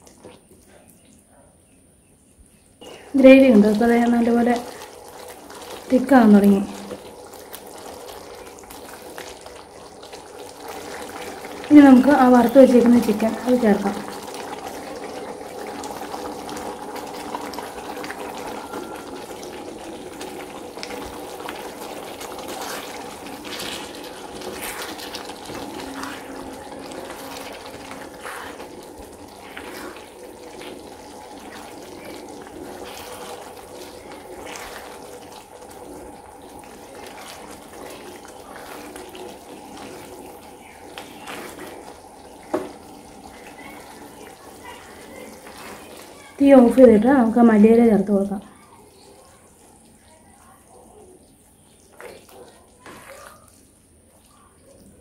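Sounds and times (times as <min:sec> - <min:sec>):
gravy simmering with hiss: 0:00.0 - 0:55.0.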